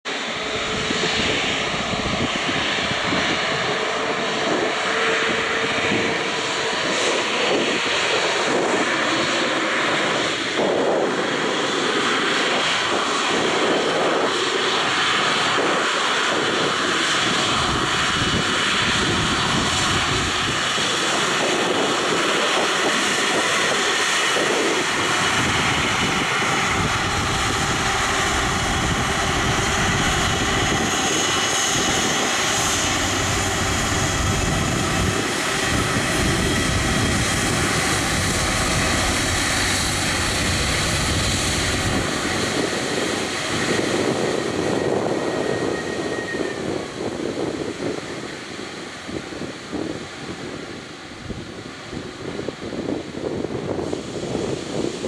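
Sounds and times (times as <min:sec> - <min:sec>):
jet engines at taxi power: 0:00.0 - 0:55.0.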